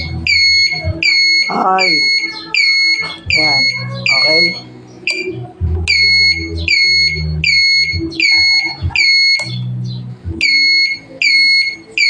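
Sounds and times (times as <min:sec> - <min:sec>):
turn signal buzzer beeping: 0:00.0 - 0:05.3, 0:05.9 - 0:09.6, 0:10.4 - 0:12.0.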